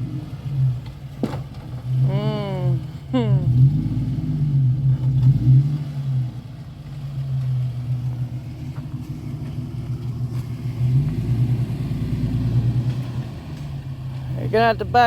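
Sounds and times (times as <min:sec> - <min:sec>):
vehicle engine running low revs: 0:00.0 - 0:15.0.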